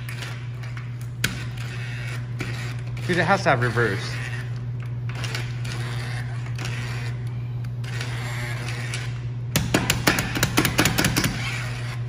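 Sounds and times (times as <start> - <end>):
hammer drill whirring and rattling: 0.0 - 12.0.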